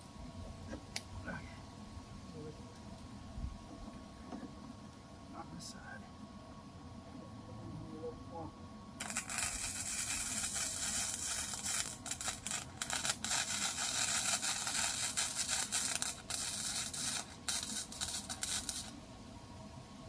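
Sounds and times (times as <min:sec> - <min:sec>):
arc welder crackling sizzle: 0:00.0 - 0:05.2, 0:08.8 - 0:20.0.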